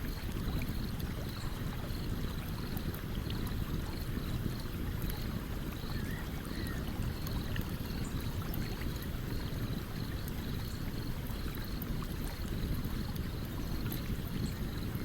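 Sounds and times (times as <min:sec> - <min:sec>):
stream water running: 0:00.0 - 0:15.0.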